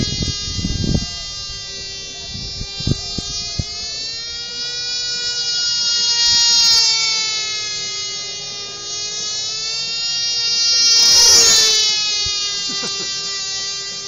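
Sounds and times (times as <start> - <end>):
model airplane engine whine: 0.0 - 14.0.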